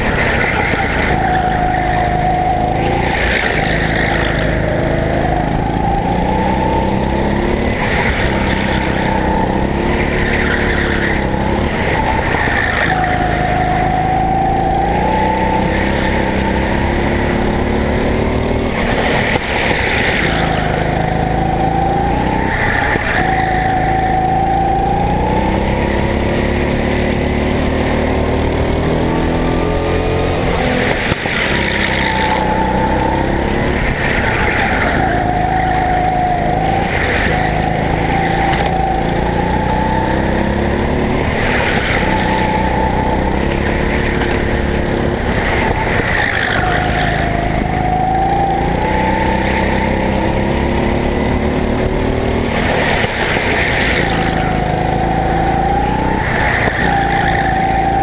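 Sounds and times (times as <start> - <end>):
go-kart engine accelerating: 0.0 - 58.0.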